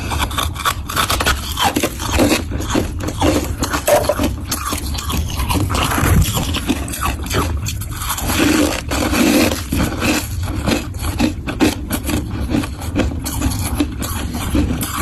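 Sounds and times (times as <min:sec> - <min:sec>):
frost crunching: 0:00.0 - 0:15.0.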